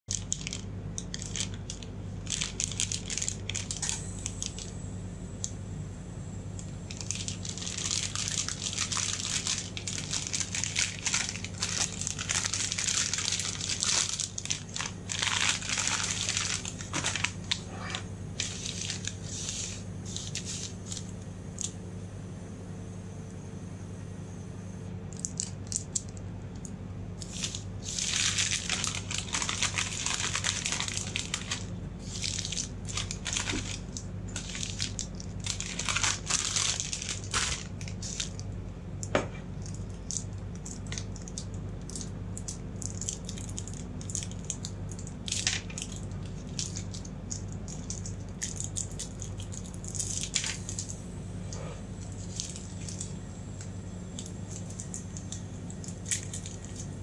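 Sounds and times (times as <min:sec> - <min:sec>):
steady low hum: 0:00.0 - 0:57.0
plastic wrappers crinkling: 0:00.1 - 0:04.8, 0:06.9 - 0:21.8, 0:25.1 - 0:26.6, 0:27.2 - 0:38.6, 0:39.6 - 0:51.0, 0:52.0 - 0:57.0.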